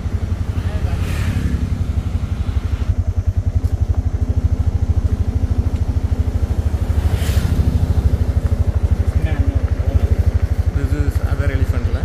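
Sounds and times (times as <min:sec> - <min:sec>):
engine idling with rapid putter: 0:00.0 - 0:12.0.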